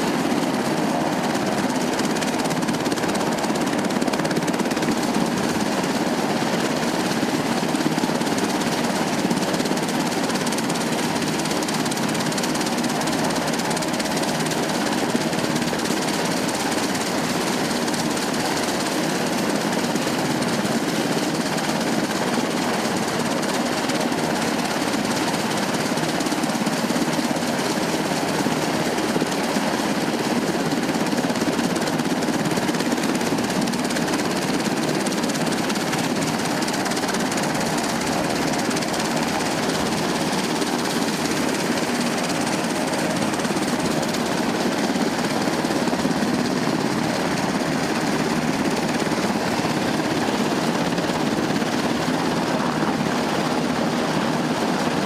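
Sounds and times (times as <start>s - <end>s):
helicopter engine drone: 0.0s - 55.0s
helicopter rotor chop: 0.0s - 55.0s.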